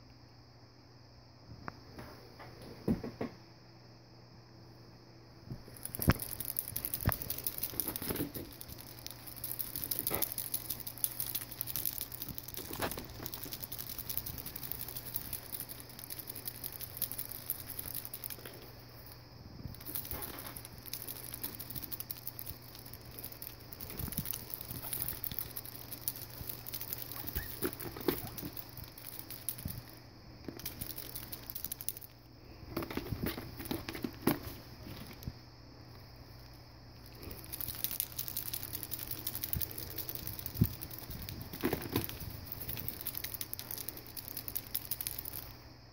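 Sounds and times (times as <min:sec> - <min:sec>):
steady low hum: 0:00.0 - 0:45.9
guinea pig feet pattering: 0:05.5 - 0:35.4, 0:37.0 - 0:45.6.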